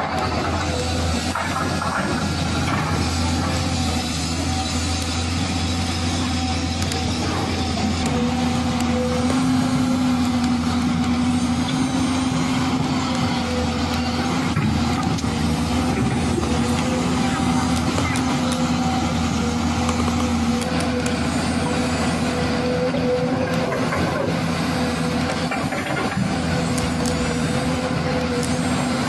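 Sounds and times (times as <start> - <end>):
toy excavator mechanical hum: 0.0 - 29.0.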